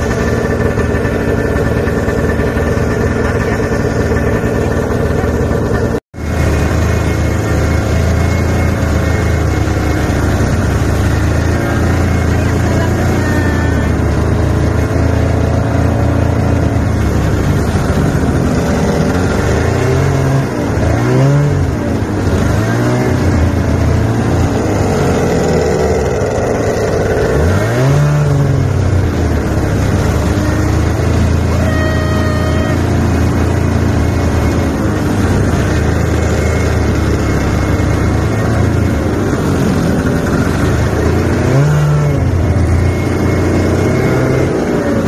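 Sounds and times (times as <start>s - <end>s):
snowmobile engines revving: 0.0s - 45.0s.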